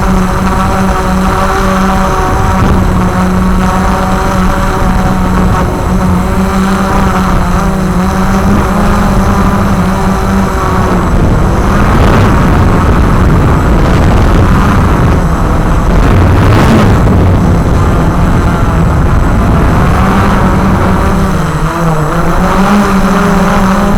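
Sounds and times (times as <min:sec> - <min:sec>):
quadcopter propellers whirring: 0:00.0 - 0:23.9.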